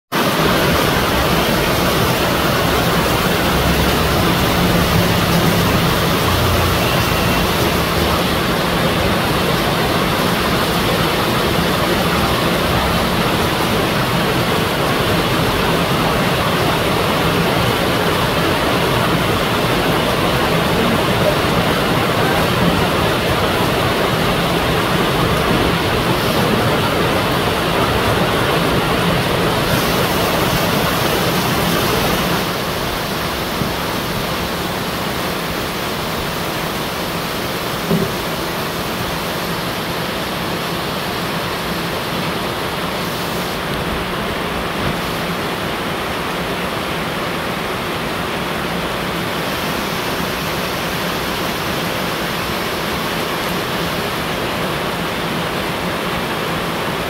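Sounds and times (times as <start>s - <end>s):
water streaming off roof: 0.1s - 57.0s
heavy rain on foliage: 0.2s - 57.0s.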